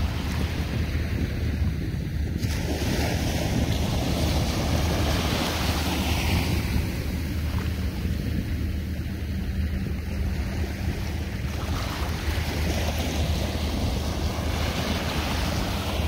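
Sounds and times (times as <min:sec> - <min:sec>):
small waves on sea water: 0:00.0 - 0:16.0
wind buffeting microphone: 0:00.0 - 0:16.0.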